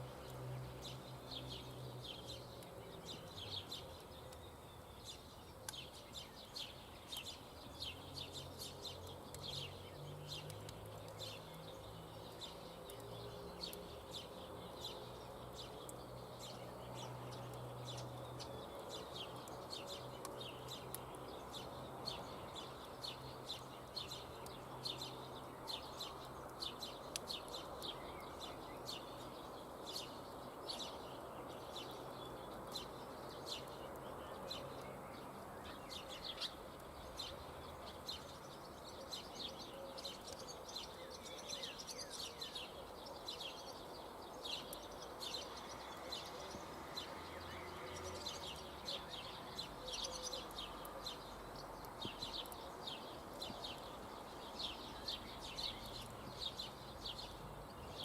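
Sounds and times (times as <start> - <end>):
outdoor background hiss: 0.0 - 58.0
small birds chirping: 0.0 - 58.0.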